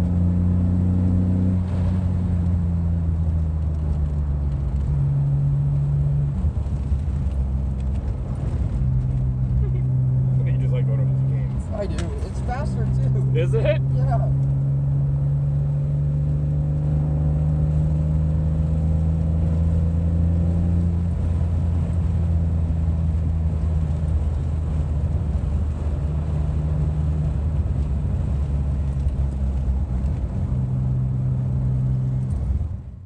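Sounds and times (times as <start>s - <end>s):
car engine running: 0.0s - 33.0s
road and tyre noise: 0.0s - 33.0s.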